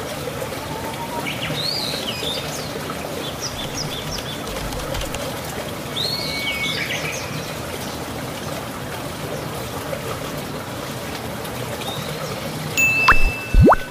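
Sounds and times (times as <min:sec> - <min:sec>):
running water: 0:00.0 - 0:13.9.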